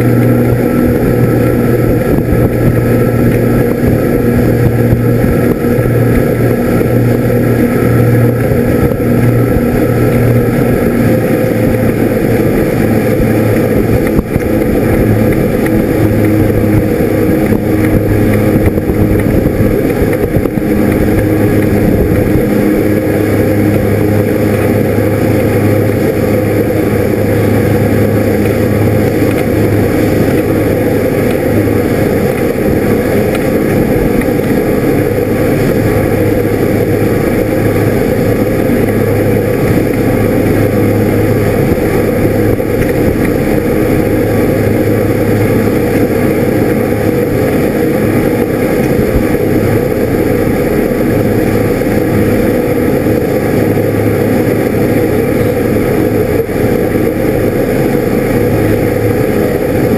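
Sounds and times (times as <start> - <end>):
boat engine humming: 0.0 - 59.9
water rushing in wake: 0.0 - 59.9.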